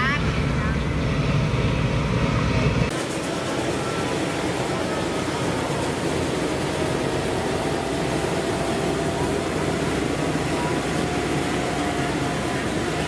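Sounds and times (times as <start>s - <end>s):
tractor engine running under load: 0.0s - 13.0s.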